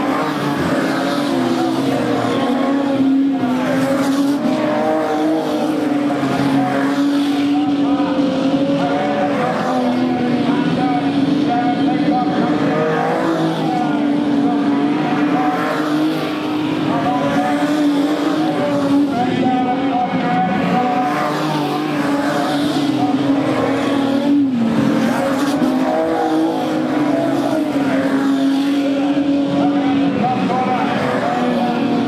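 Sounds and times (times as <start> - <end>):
race car engines droning: 0.0 - 32.0.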